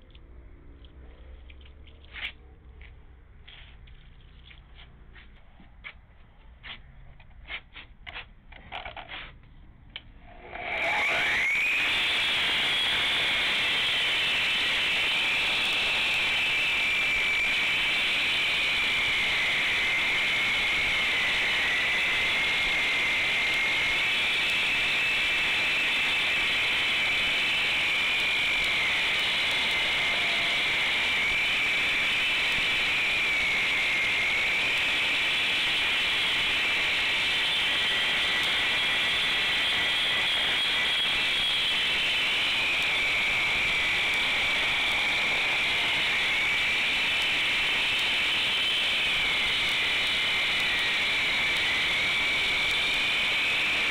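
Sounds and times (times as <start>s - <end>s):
concrete saw cutting concrete: 10.3s - 53.9s.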